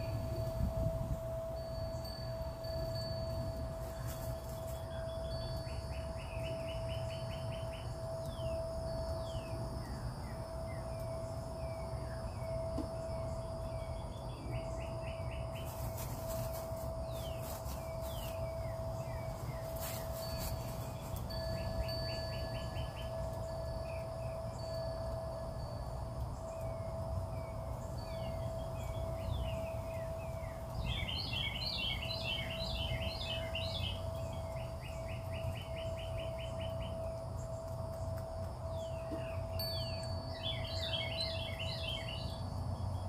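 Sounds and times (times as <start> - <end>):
birds trilling and chirping: 0.0 - 43.0.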